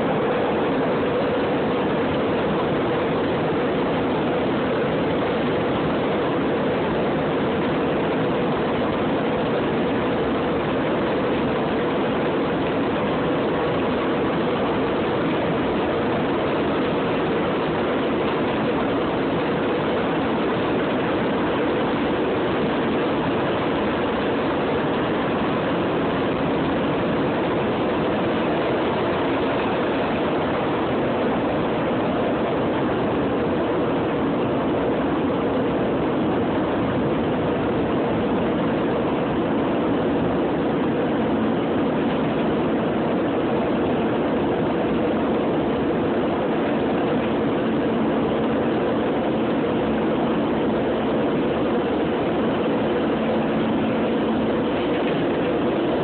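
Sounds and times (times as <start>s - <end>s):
jet engines at takeoff power: 0.0s - 56.0s.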